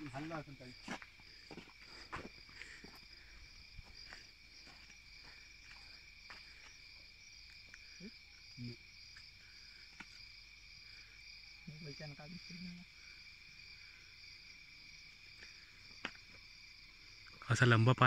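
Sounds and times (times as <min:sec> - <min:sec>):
pulsing higher cricket trill: 0:00.0 - 0:15.9
crickets trilling: 0:00.0 - 0:18.0.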